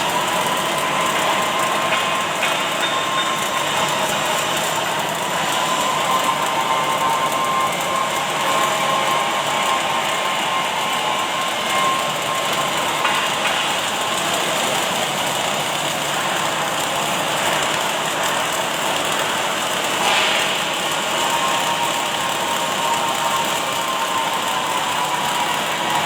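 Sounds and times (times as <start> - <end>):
arc welding machine hissing: 0.0 - 26.0.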